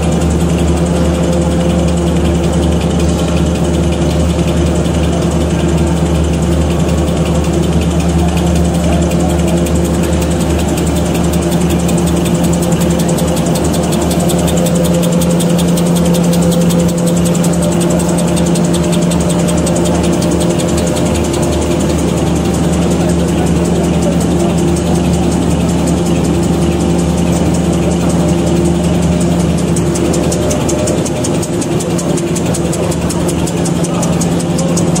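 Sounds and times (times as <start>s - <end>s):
paper towel machine running: 0.0s - 35.0s.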